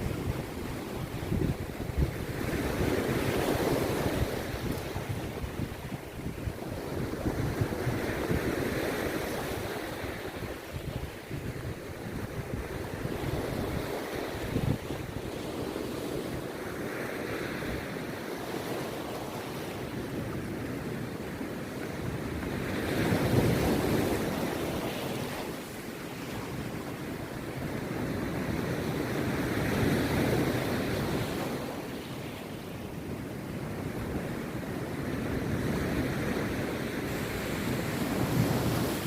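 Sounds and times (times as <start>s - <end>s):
waves crashing on beach: 0.0s - 39.0s.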